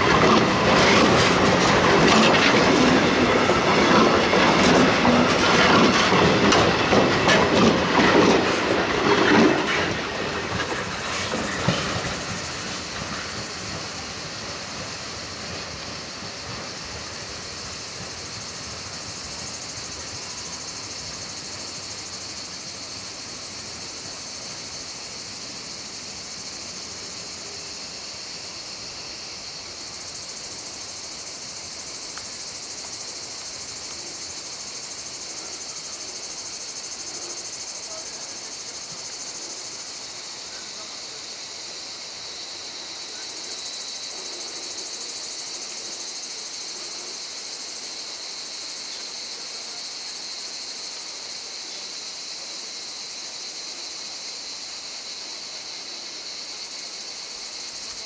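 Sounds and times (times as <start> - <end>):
high-pitched insect chorus: 0.0 - 58.0
low rumble of a train: 0.0 - 58.0.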